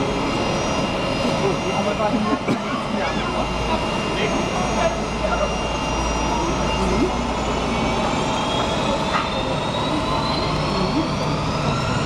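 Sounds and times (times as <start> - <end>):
jet engine spooling up whine: 0.0 - 12.0.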